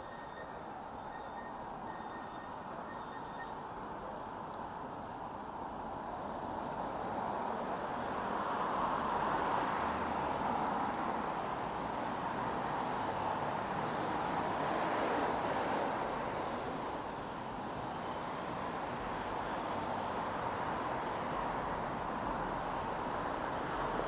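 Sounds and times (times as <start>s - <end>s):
cars passing on street: 0.0s - 24.0s.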